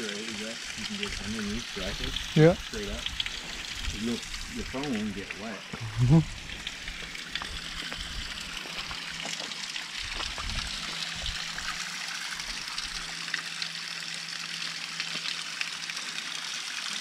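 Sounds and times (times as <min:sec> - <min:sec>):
water drips: 0:00.0 - 0:17.0
water trickling and splashing: 0:00.0 - 0:17.0.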